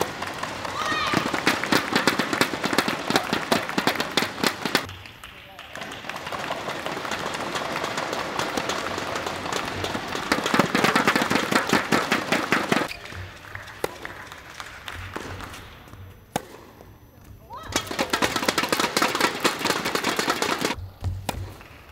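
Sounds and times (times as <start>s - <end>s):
spectators clapping: 0.0s - 15.9s, 17.9s - 20.8s.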